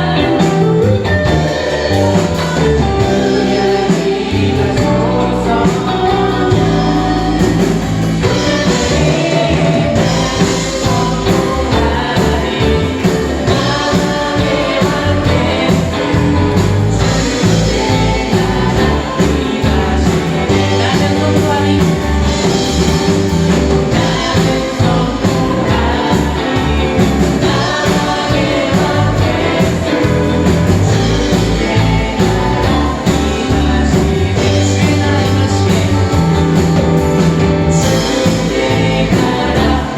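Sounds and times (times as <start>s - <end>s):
group singing worship song: 0.0s - 39.9s
live instrumental accompaniment: 0.0s - 39.9s
steady bass line: 0.0s - 39.9s.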